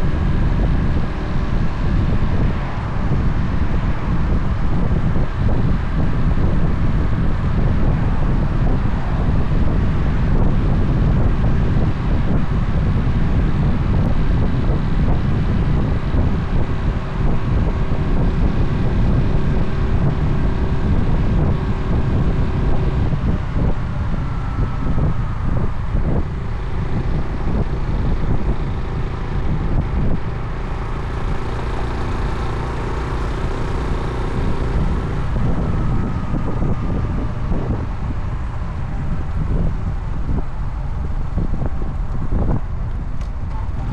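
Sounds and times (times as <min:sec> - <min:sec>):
motorcycle engine: 0:00.0 - 0:43.9
wind buffeting microphone: 0:00.0 - 0:43.9.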